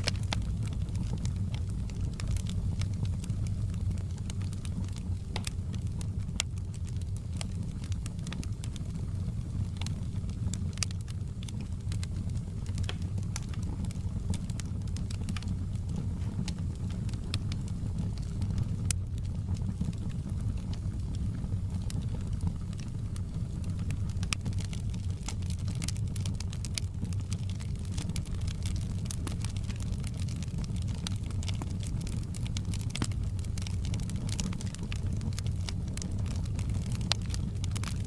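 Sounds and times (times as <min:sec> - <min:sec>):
low rumble of burning fire: 0:00.0 - 0:38.0
wood fire crackling and popping: 0:00.0 - 0:38.0.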